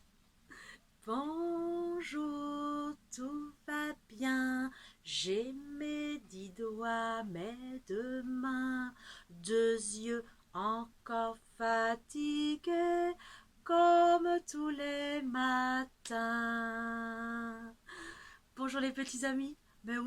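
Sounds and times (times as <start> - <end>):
woman singing: 1.0 - 17.9, 18.6 - 20.0.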